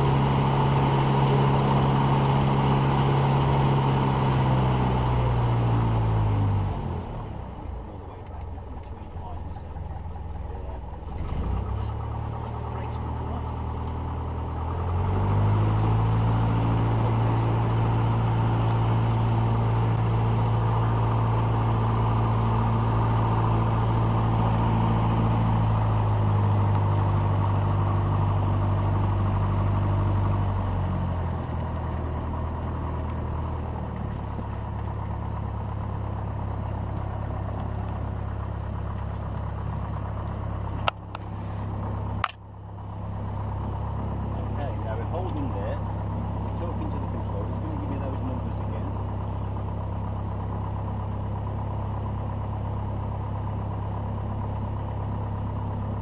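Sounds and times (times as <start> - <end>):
light aircraft engine and propeller: 0.0 - 56.0.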